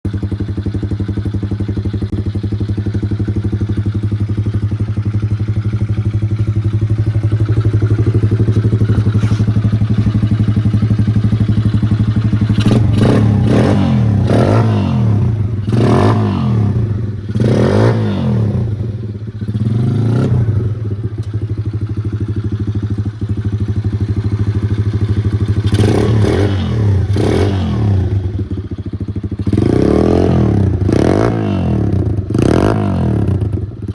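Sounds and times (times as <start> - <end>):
quad bike engine idling and revving: 0.0 - 33.9.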